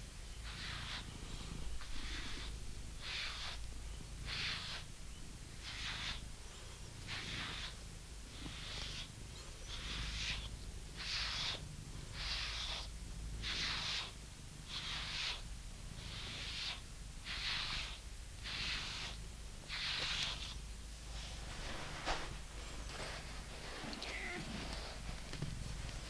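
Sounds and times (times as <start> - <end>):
brush stroking cat fur: 0.0 - 26.0.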